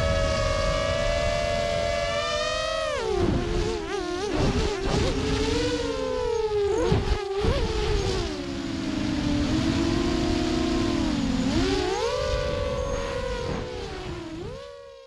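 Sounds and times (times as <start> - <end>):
wind rumbling on microphone: 0.0 - 14.7
electric motor and propeller whine: 0.0 - 15.0.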